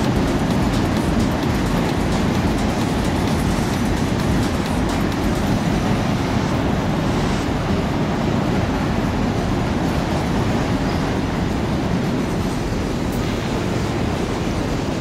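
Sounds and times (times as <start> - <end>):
fairground ride rumble: 0.0 - 15.0.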